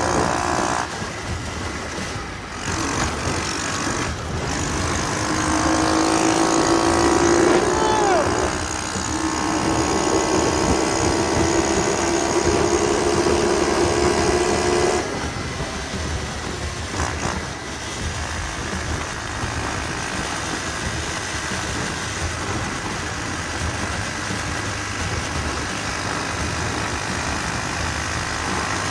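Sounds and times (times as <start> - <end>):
minibike engine running hard: 0.0 - 28.9.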